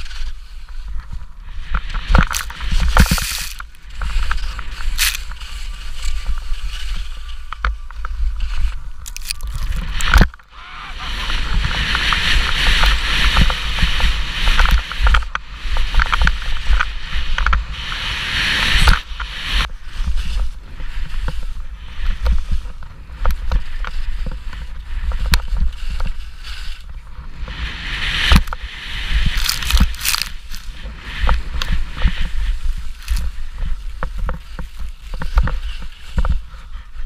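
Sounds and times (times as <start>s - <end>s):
skis hissing over snow: 0.0s - 37.0s
wind buffeting microphone: 0.8s - 37.0s.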